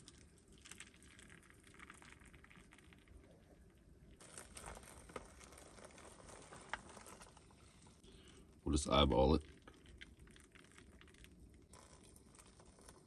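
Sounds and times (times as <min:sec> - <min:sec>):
hot water pouring: 0:00.0 - 0:13.0.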